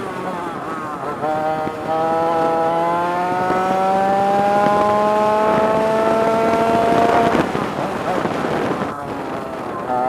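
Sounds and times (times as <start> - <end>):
kart engine revving: 0.0 - 10.0.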